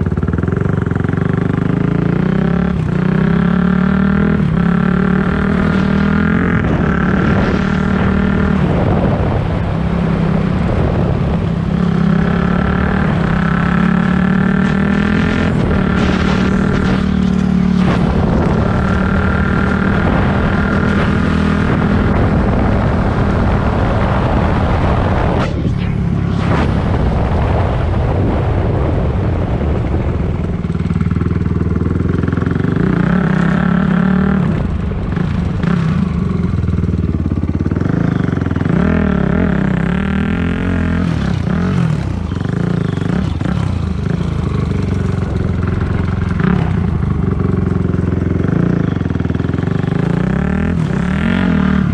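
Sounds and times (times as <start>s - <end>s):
dirt bike engine revving: 0.0s - 27.8s, 30.9s - 51.9s.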